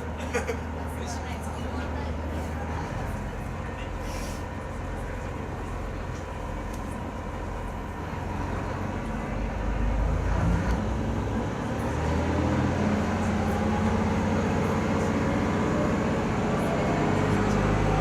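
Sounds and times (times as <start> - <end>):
diesel railcar engine drone: 0.0 - 18.0.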